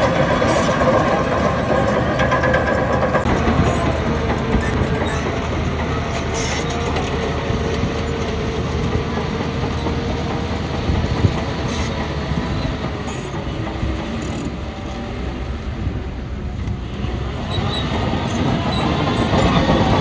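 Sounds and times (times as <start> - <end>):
bulldozer diesel engine running: 0.0 - 20.0
steel tracks clanking: 0.0 - 20.0.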